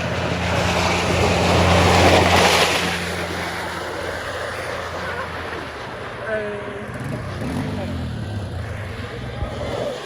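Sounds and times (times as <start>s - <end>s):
rushing noise: 0.0s - 10.0s
vehicle engine humming: 0.0s - 10.0s.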